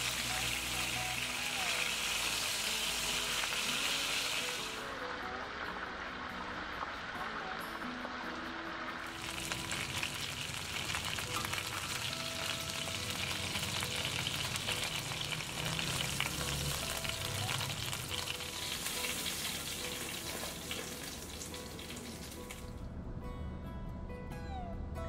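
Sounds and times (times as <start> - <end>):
food sizzling in a hot pan: 0.0 - 22.6.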